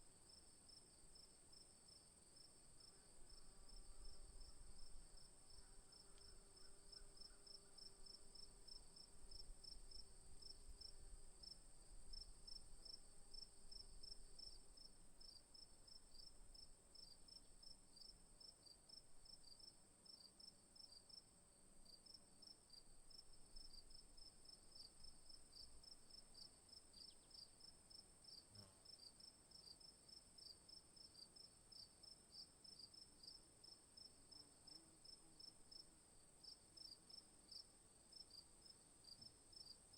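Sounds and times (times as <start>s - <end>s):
insect chorus buzzing and chirping: 0.2s - 21.2s, 21.8s - 39.9s.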